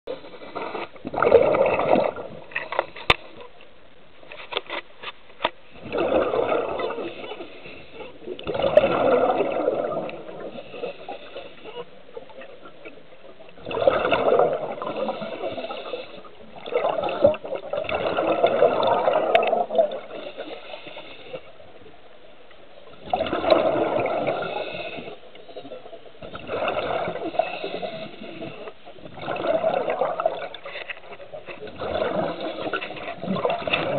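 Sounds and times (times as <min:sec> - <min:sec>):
underwater breathing bubbles: 0:00.1 - 0:03.6, 0:05.7 - 0:13.0, 0:13.6 - 0:21.9, 0:22.9 - 0:33.9.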